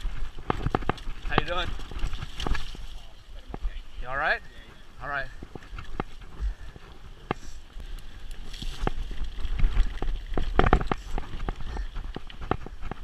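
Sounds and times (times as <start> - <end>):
bike rattling over rocks: 0.0 - 13.0.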